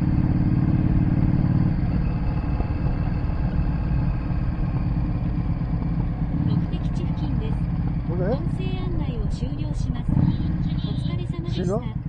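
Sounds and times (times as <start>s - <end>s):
car engine humming: 0.0s - 12.0s
road noise: 0.0s - 12.0s.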